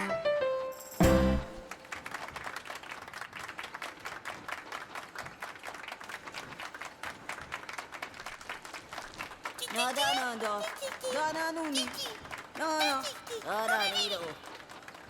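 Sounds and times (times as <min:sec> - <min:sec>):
crowd applauding: 0:01.0 - 0:15.0.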